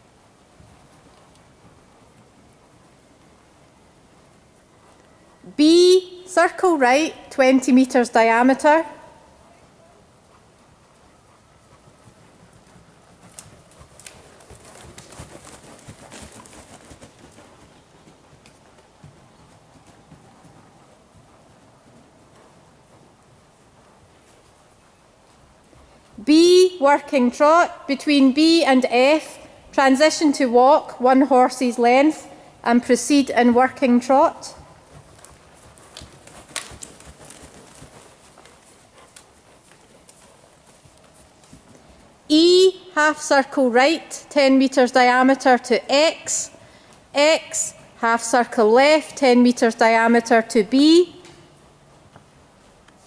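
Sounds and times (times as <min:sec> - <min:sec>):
pony hoofbeats trotting on sand: 0:00.0 - 0:53.0.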